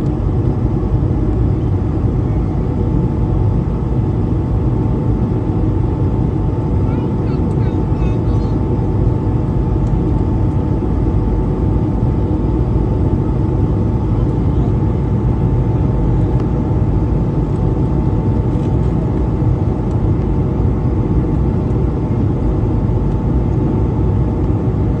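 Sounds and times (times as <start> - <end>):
jet engines rumbling: 0.0 - 24.4
faint engine whine: 0.0 - 25.0.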